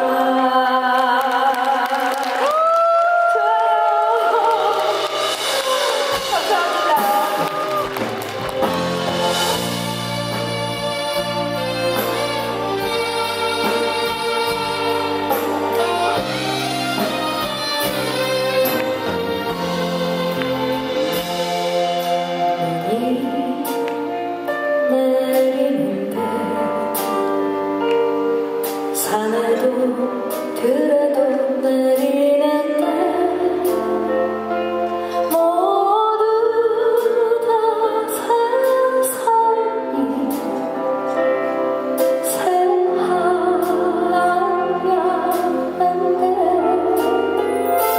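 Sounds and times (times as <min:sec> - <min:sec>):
woman singing: 0:00.0 - 0:08.0, 0:08.6 - 0:27.4, 0:28.8 - 0:47.9
live band playing: 0:00.0 - 0:47.9
instrumental accompaniment: 0:04.1 - 0:47.9.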